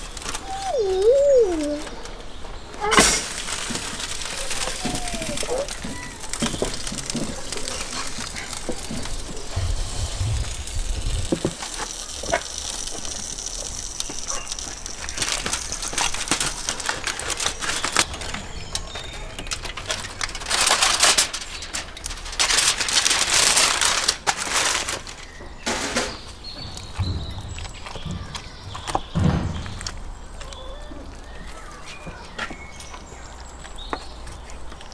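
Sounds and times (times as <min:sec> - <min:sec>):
aluminium foil crinkling: 0:00.0 - 0:34.9.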